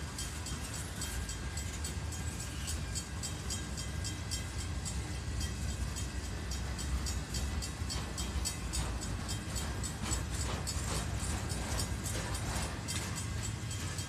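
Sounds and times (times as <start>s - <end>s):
freight train rolling past: 0.0s - 14.0s
wheels clicking over rail joints: 0.0s - 14.0s.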